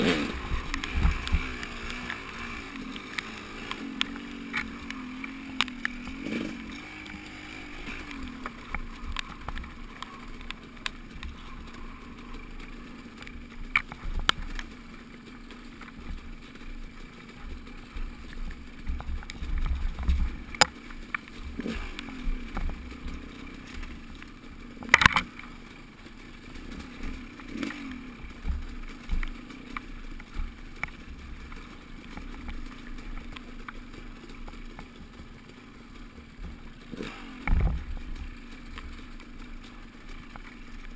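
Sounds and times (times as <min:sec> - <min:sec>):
sharp clicks and rattles: 0:00.0 - 0:40.9
vehicle riding rumble: 0:00.0 - 0:40.9.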